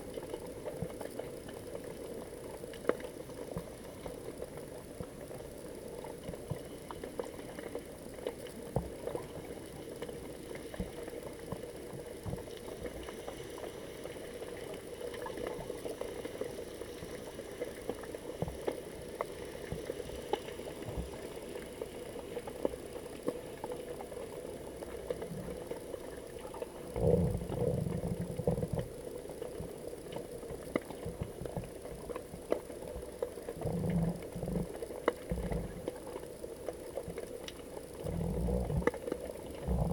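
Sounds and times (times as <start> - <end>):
low rumble of water movement: 0.0 - 39.9
muffled underwater hiss: 0.0 - 39.9.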